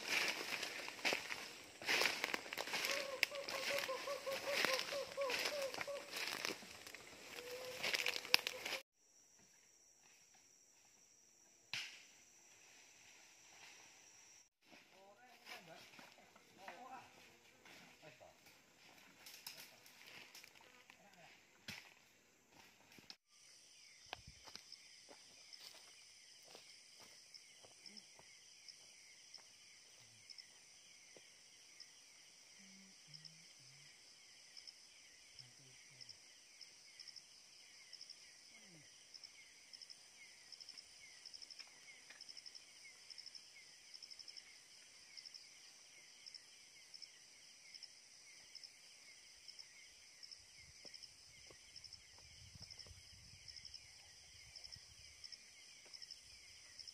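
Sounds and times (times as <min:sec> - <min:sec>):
night insects trilling: 0:00.0 - 0:17.4, 0:23.3 - 0:56.9.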